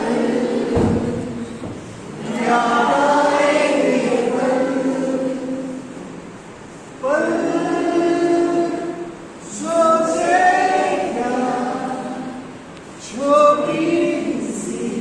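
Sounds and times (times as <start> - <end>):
group singing long held notes: 0.0 - 15.0.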